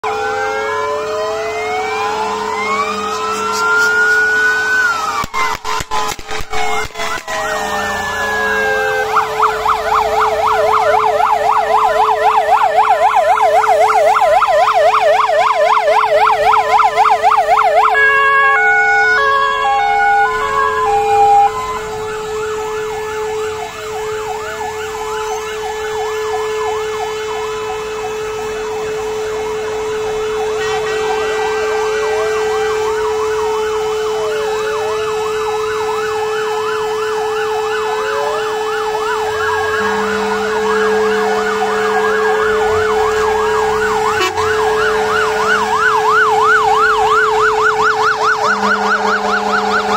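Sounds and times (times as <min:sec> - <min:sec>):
fire engine sirens: 0:00.0 - 0:49.9
steady held siren tone: 0:00.0 - 0:49.9.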